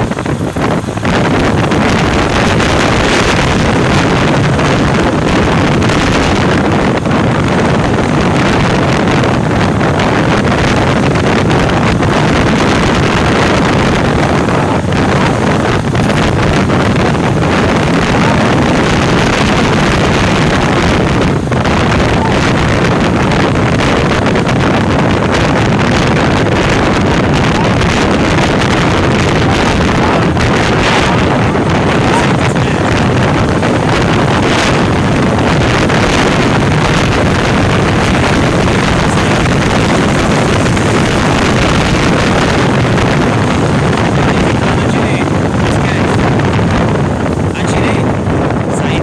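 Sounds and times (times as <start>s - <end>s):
motorcycle running: 0.0s - 49.0s
wind rushing over microphone: 0.0s - 49.0s.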